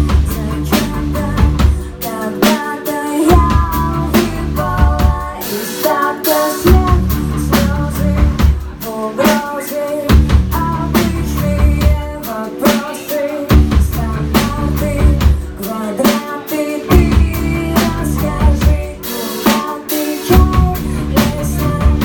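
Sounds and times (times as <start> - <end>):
drum kit: 0.0 - 22.0
live band playing: 0.0 - 22.0
woman singing: 0.0 - 22.0.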